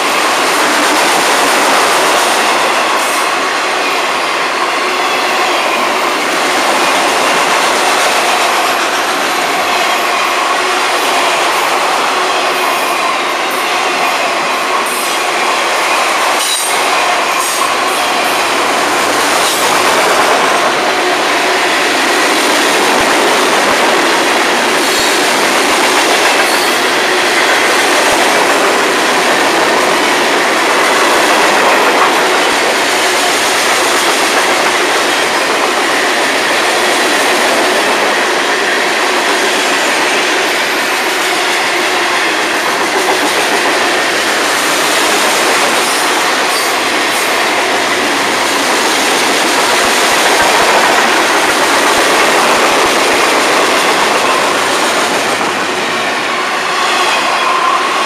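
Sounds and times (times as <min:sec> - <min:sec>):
steel wheels running on rails: 0:00.0 - 0:58.0.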